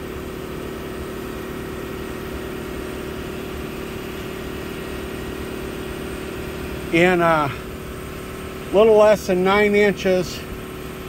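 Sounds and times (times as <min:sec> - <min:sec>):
shop machinery humming: 0:00.0 - 0:11.0.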